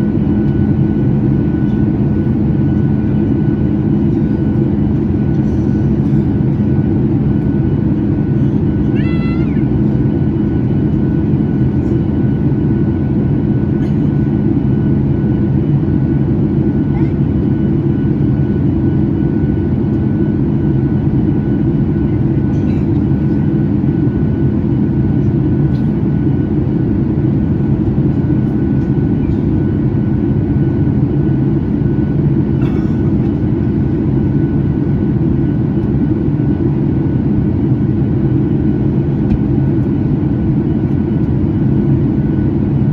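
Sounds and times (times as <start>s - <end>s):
airplane cabin noise: 0.0s - 42.9s.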